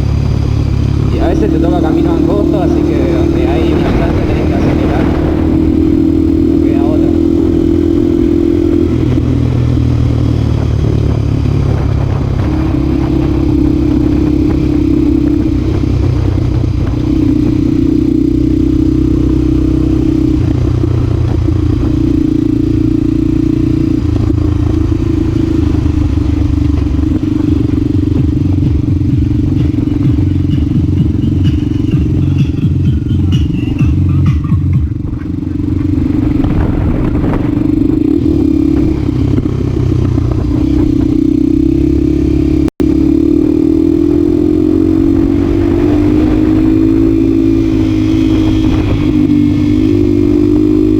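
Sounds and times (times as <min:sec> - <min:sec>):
motorcycle engine running hard: 0:00.0 - 0:50.9.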